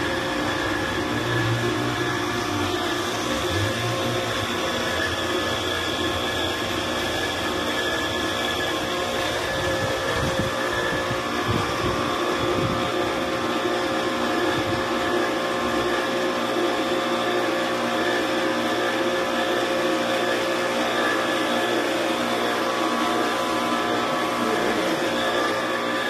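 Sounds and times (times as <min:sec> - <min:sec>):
pressure washer motor running: 0:00.0 - 0:26.0.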